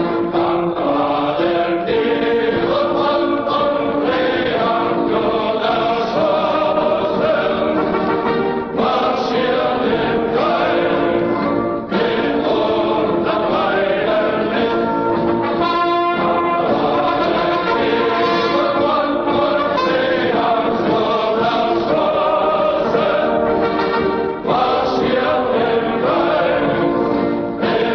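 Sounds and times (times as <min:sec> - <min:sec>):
choir singing an anthem: 0:00.0 - 0:27.9
orchestra and brass: 0:00.0 - 0:27.9.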